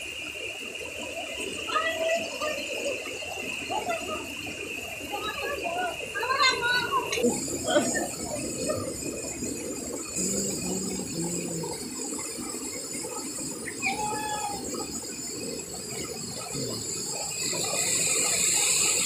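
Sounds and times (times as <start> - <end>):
stream water rushing over rocks: 0.0 - 19.0.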